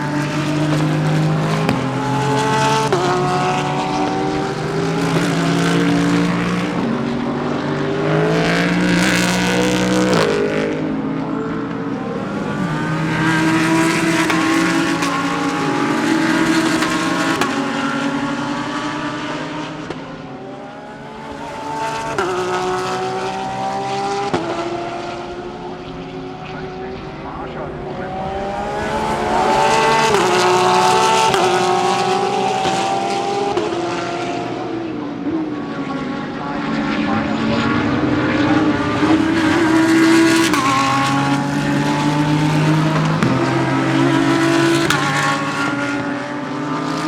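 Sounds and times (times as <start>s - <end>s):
race car engines revving past: 0.0s - 47.0s.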